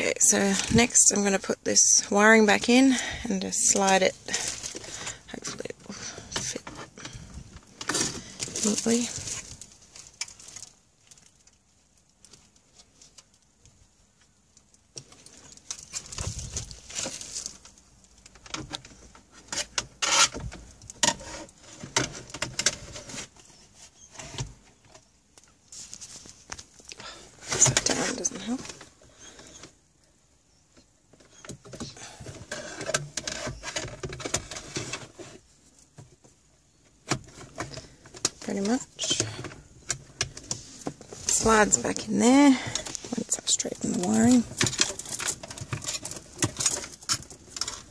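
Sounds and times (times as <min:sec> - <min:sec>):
wiring rustling: 0:00.0 - 0:29.8, 0:30.8 - 0:47.9.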